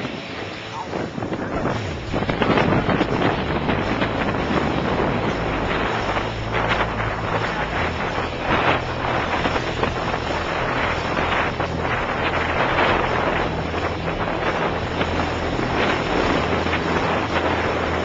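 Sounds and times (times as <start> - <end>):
water rushing past boat: 0.0 - 18.0
wind buffeting microphone: 0.0 - 18.0.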